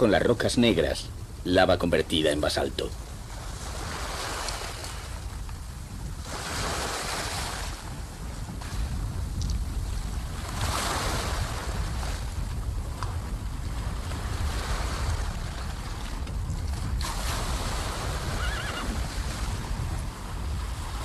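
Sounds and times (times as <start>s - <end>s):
sea surf washing: 0.0s - 21.0s
wind rumble on microphone: 0.0s - 21.0s.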